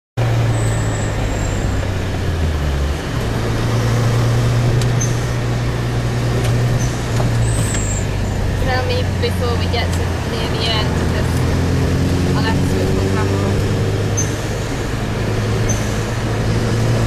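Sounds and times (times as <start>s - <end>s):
car engine under load: 0.2s - 17.0s
wind and road noise: 0.2s - 17.0s.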